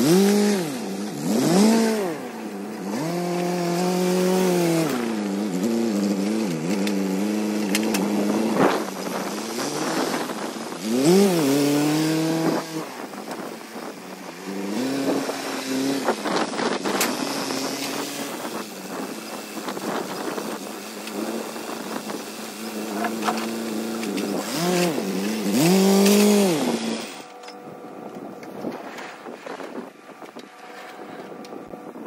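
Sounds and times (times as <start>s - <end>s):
tractor engine revving: 0.0s - 32.0s.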